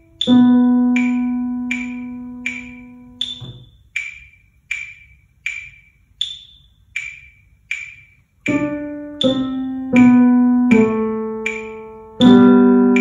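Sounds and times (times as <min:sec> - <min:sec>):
digital piano notes: 0:00.0 - 0:13.0
metronome clicking: 0:00.0 - 0:13.0.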